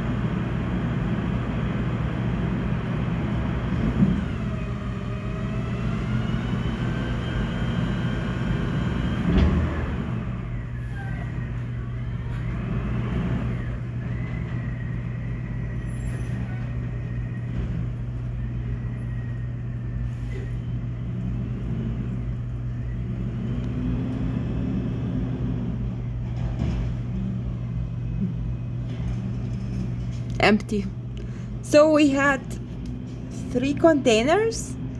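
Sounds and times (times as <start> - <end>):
garbage truck diesel engines humming: 0.0 - 34.9.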